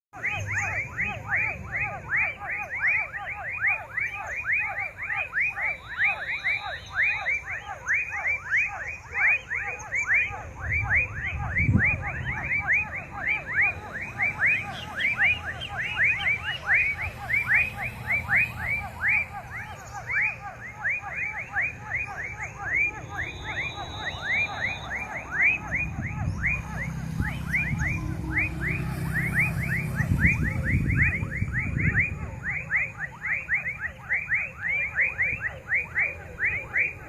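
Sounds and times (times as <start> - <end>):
small animals chirping: 0.2 - 32.9.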